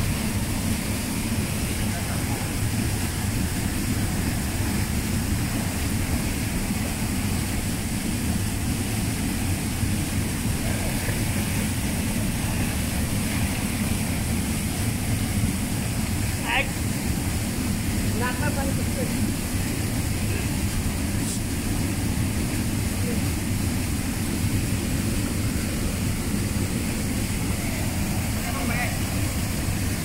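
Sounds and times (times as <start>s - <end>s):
river rushing down a waterfall: 0.0s - 30.0s.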